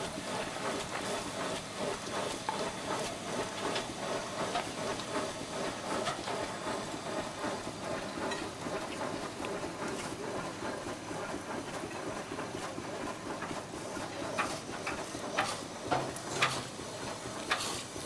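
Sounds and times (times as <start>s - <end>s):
steam exhaust rushing: 0.0s - 18.0s.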